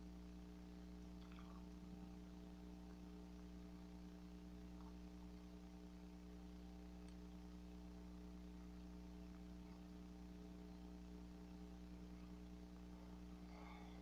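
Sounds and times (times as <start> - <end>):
faint hiss: 0.0 - 14.0
low electrical hum: 0.0 - 14.0.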